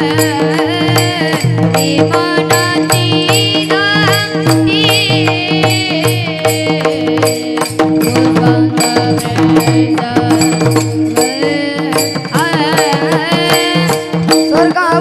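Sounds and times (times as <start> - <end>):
drum and percussion beat: 0.0 - 15.0.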